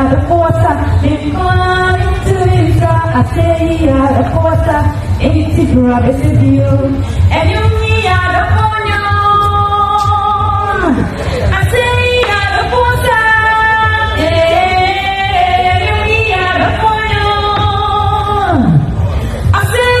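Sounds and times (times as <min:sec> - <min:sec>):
woman singing: 0:00.0 - 0:18.8, 0:19.5 - 0:20.0
backing music with bass: 0:00.0 - 0:20.0.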